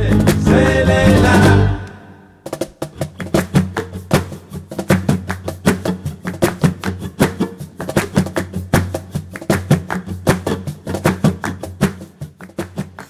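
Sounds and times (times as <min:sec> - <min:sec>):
fast percussion strikes: 0:00.0 - 0:13.0.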